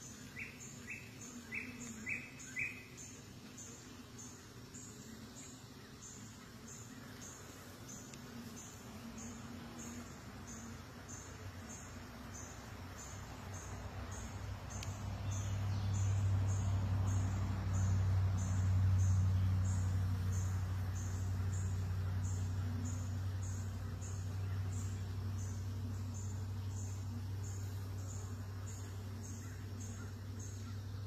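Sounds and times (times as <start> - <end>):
honeybees humming: 0.0 - 31.0
insect chirping: 0.0 - 31.0.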